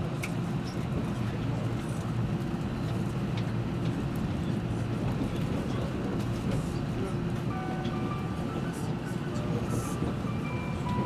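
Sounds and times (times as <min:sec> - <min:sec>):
electric train running: 0:00.2 - 0:11.0.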